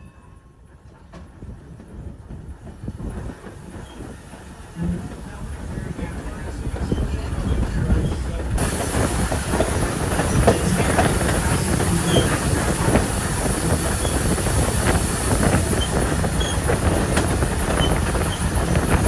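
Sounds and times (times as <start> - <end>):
train cars rolling on track: 0.0 - 19.0
wheels clicking and rattling: 0.9 - 19.0.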